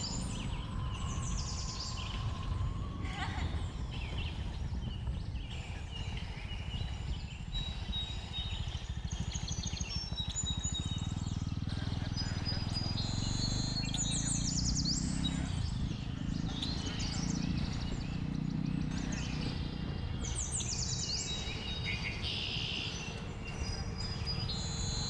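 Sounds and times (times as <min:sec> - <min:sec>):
birds chirping: 0:00.0 - 0:25.0
motorcycle engine running: 0:00.0 - 0:25.0.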